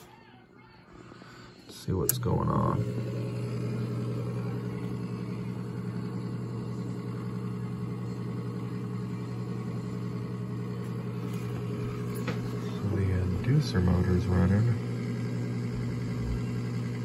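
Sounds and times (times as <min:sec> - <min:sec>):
inducer motor humming: 0:00.0 - 0:17.0.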